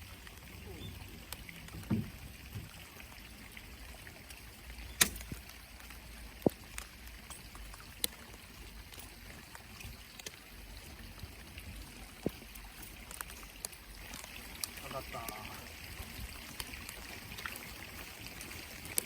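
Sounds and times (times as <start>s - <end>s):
low rumble of wind and water: 0.0s - 19.0s.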